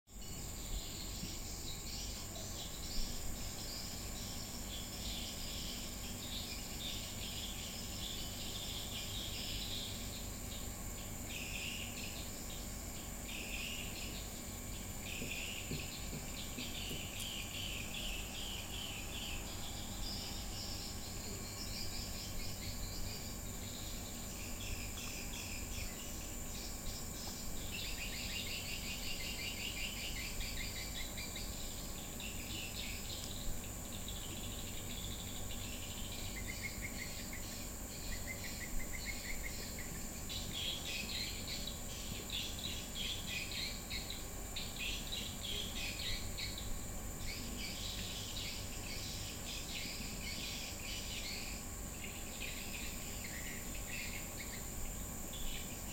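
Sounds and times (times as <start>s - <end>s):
insects chirring: 0.1s - 55.9s.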